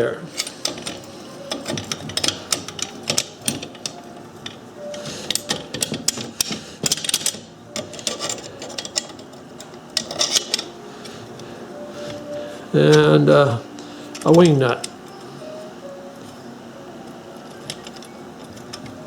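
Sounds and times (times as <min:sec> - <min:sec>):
small metal parts clinking: 0:00.3 - 0:15.6, 0:17.1 - 0:19.0.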